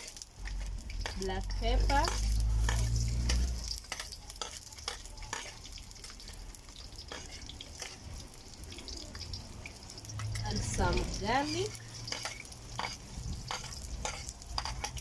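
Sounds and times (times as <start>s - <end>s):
utensil scraping a pan: 0.0s - 6.4s, 7.0s - 8.2s, 10.2s - 15.0s
onions sizzling in a frying pan: 0.0s - 15.0s.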